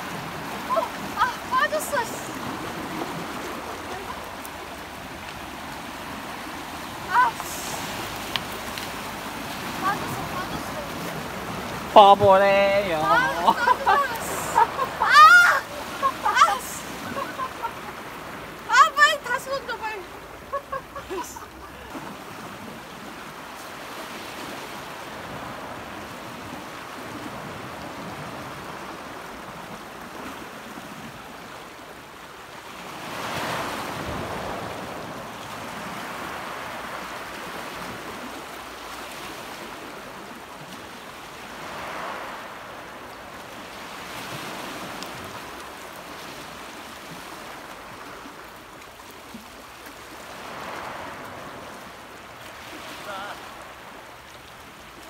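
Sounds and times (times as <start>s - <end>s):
waves washing over rocks: 0.0s - 55.0s.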